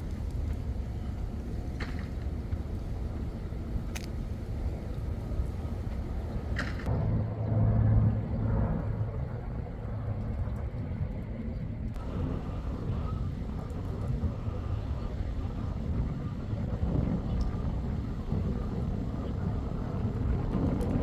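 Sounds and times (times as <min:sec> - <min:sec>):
outdoor background noise: 0:00.0 - 0:21.0
passing vehicle engine rumble: 0:00.0 - 0:21.0.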